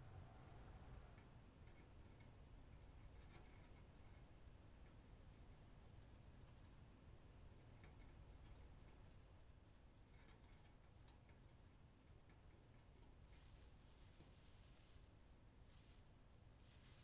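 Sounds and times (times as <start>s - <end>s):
hamster scratching and rustling: 1.6s - 17.0s.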